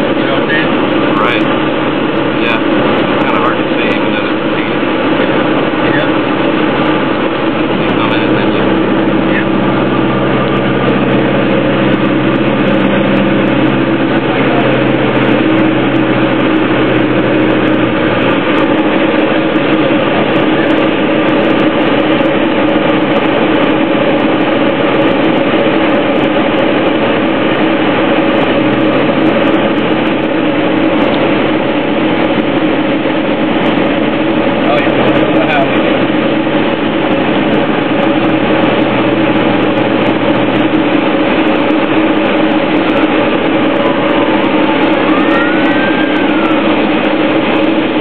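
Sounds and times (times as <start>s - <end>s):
aircraft engine and propeller droning: 0.0s - 48.0s.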